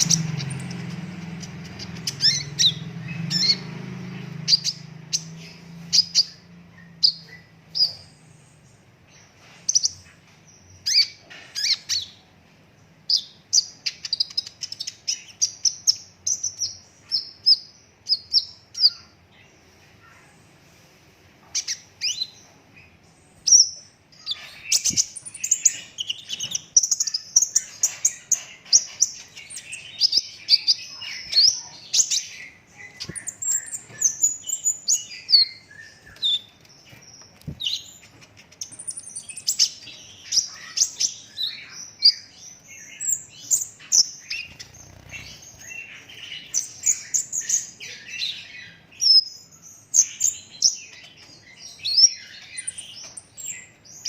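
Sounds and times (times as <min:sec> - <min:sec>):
bird singing high chirps and trills: 0:00.0 - 0:20.6, 0:21.4 - 0:54.0.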